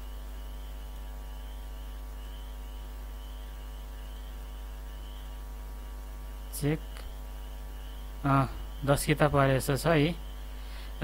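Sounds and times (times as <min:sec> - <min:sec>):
electrical mains hum: 0:00.0 - 0:11.0
thin electrical buzz: 0:00.0 - 0:11.0.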